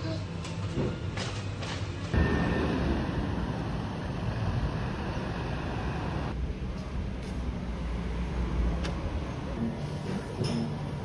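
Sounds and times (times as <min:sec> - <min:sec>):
vehicle rumbling: 0:02.1 - 0:11.0.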